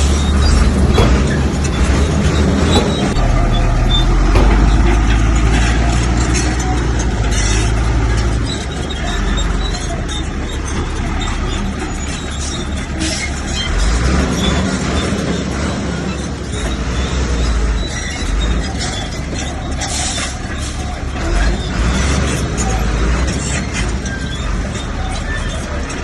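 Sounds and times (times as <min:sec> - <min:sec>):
bulldozer diesel engine under load: 0:00.0 - 0:26.0
knocks and clatter: 0:00.0 - 0:26.0.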